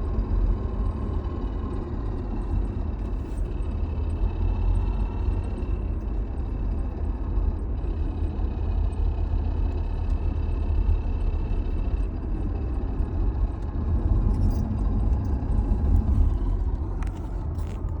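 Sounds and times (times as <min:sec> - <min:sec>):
vehicle running low rumble: 0:00.0 - 0:18.0.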